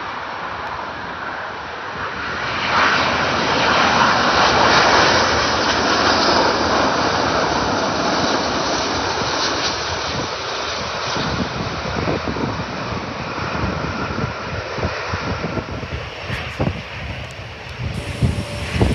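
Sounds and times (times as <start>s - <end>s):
jet airliner passing low overhead: 0.0s - 18.9s.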